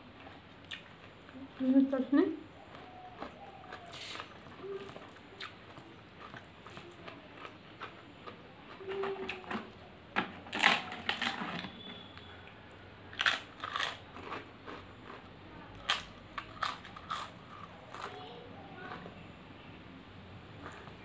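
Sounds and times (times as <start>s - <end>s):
crunching and chewing food: 0.0s - 19.4s, 20.4s - 21.0s.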